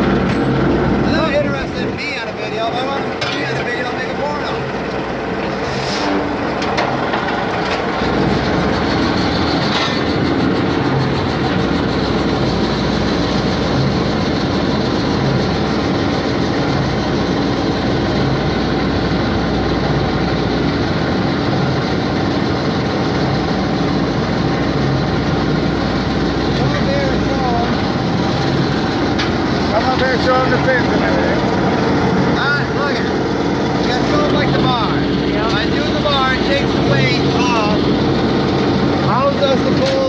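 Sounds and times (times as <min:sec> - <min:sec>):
motor running steadily: 0:00.0 - 0:40.0.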